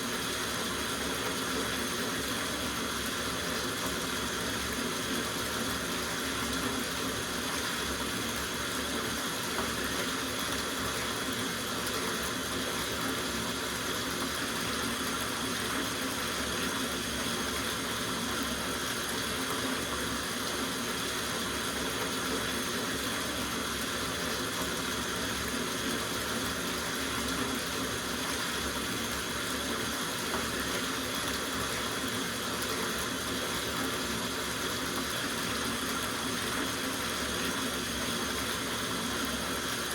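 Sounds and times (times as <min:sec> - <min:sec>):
tap water running into bathtub: 0:00.0 - 0:39.9.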